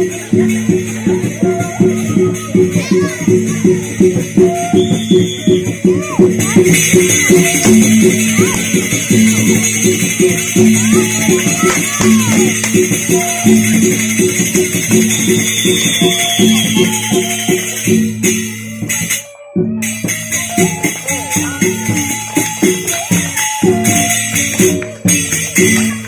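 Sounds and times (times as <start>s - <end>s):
fast percussion beat: 0.0s - 26.0s
jingling cymbals: 0.0s - 26.0s.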